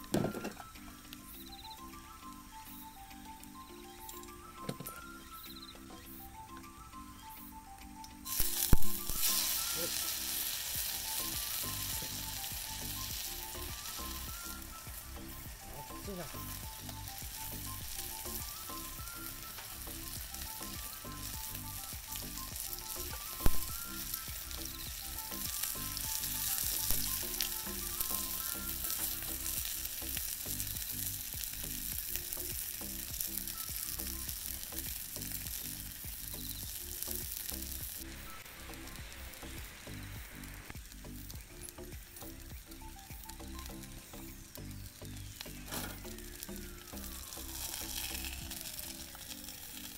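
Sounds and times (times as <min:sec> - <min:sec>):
light background music: 0:00.0 - 0:49.9
meat patty sizzling in skillet: 0:08.2 - 0:49.9.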